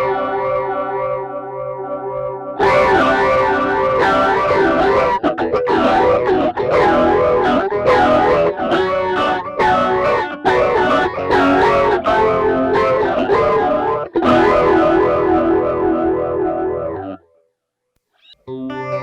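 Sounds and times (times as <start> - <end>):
electric guitar strumming chords: 0.0 - 17.2, 18.5 - 19.0.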